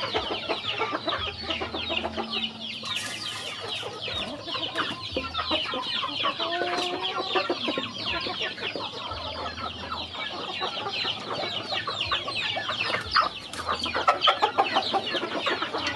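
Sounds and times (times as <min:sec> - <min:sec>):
chickens clucking and chirping: 0:00.0 - 0:15.9.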